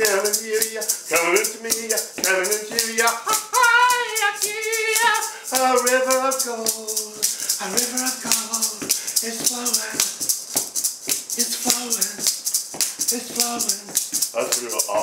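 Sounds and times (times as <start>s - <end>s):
man chanting wordlessly: 0.0s - 10.2s, 11.3s - 12.3s, 13.0s - 15.0s
wooden maraca shaking: 0.0s - 15.0s.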